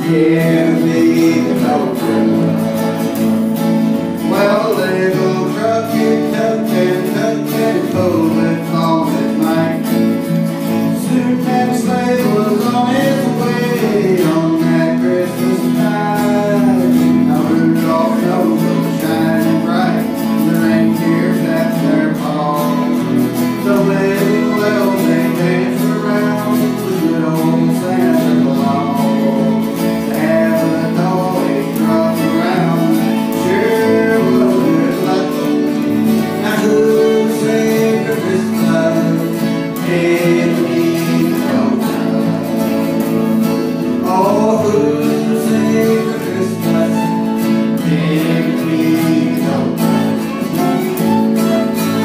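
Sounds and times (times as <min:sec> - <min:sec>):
picked guitar melody: 0:00.0 - 0:52.0
strummed guitar chords: 0:00.0 - 0:52.0.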